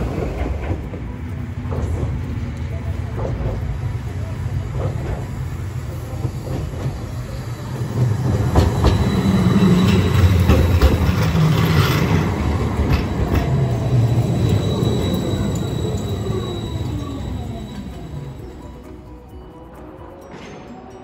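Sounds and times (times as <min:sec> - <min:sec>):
wheels clacking over rails: 0:00.0 - 0:18.6
tram rumble: 0:00.0 - 0:21.0.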